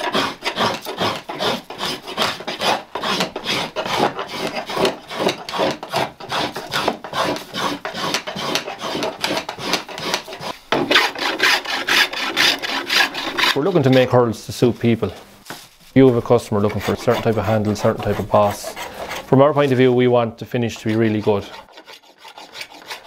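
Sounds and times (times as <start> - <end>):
hand plane scraping wood: 0.0 - 14.1, 16.0 - 20.0, 20.6 - 23.0.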